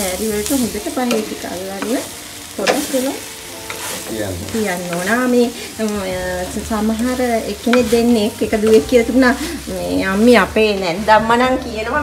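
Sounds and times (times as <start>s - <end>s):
frying sizzle: 0.0s - 12.0s.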